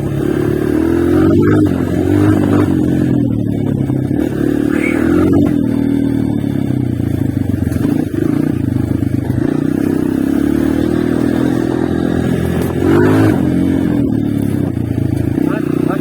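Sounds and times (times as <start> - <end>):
engine revving: 0.0 - 16.0
motorcycle engine running: 0.0 - 16.0.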